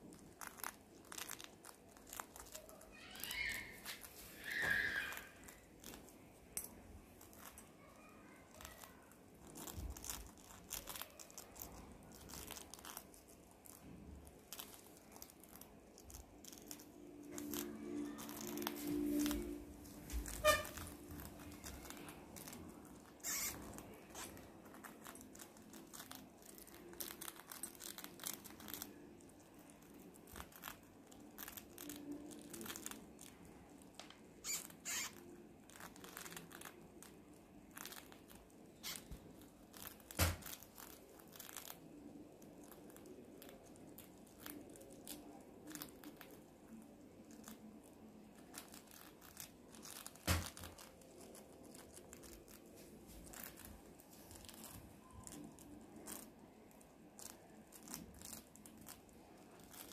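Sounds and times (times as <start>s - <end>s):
rats nibbling a biscuit: 0.0s - 59.9s.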